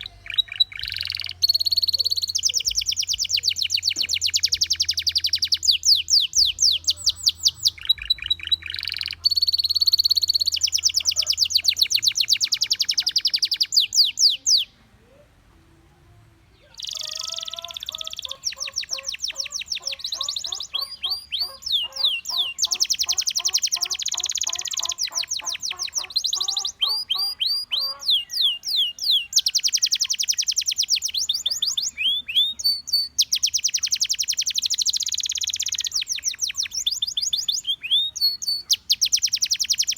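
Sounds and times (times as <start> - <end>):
canary singing trills: 0.0 - 15.4, 16.5 - 39.9.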